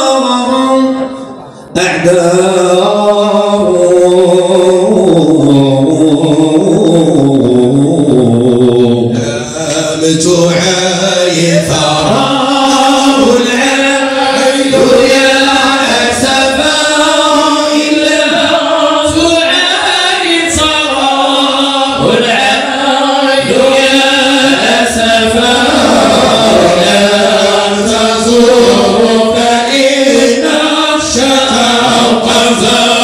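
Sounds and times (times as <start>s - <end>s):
men chanting in unison: 1.7s - 33.0s.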